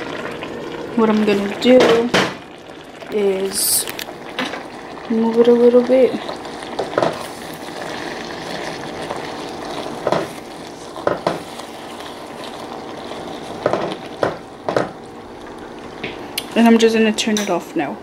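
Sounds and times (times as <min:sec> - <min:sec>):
sauce bubbling in a pan: 0:00.0 - 0:17.0.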